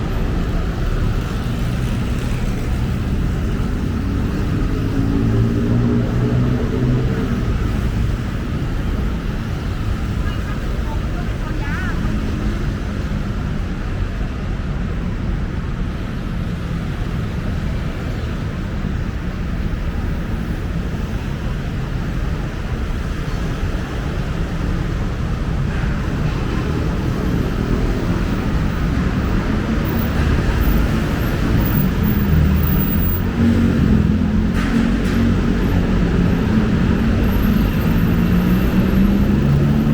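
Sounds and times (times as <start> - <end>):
city road traffic rumble: 0.0 - 39.9.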